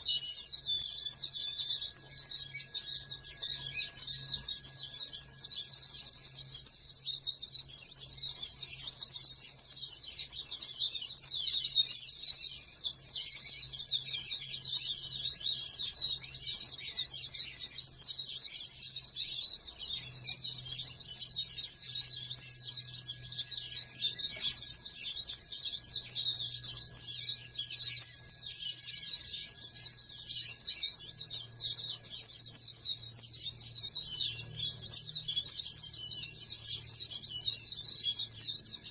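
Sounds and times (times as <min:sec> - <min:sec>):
songbird twittering song: 0:00.0 - 0:38.9.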